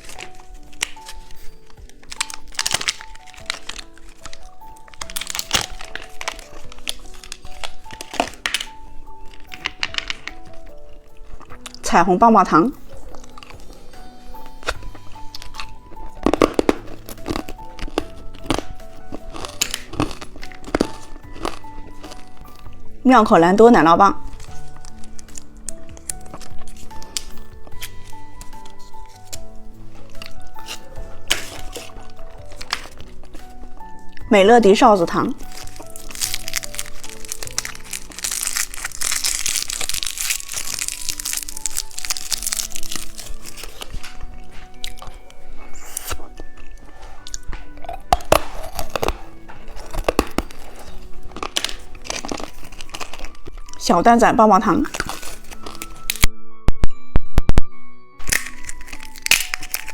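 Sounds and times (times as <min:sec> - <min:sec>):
plastic wrapper crinkling and tearing: 0:00.0 - 0:11.9, 0:12.7 - 0:56.3, 0:58.2 - 0:59.9
background music: 0:00.0 - 0:59.9.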